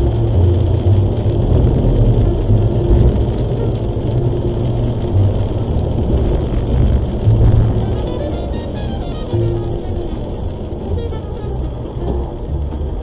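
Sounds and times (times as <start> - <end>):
vehicle engine and tyre noise: 0.0 - 13.0.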